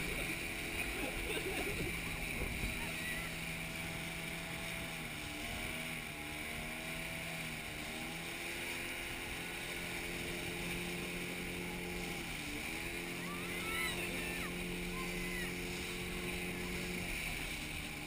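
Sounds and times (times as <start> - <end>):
rushing water: 0.0 - 18.0
speedboat engine running: 0.0 - 18.0
wind: 0.0 - 18.0.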